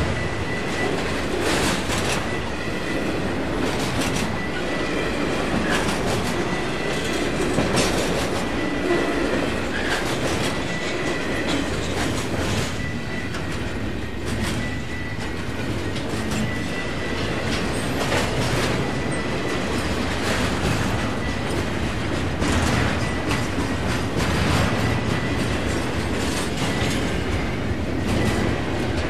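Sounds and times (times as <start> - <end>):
train wheels clicking over rails: 0.0 - 29.0.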